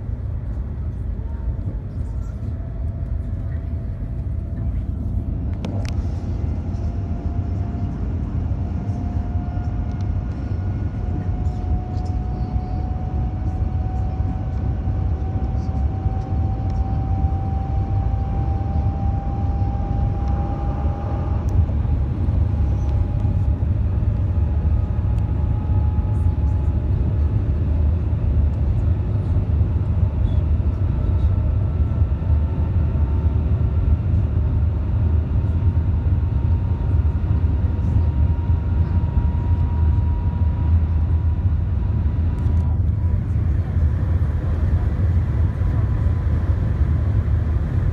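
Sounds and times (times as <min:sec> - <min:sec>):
train cabin low rumble: 0:00.0 - 0:47.9.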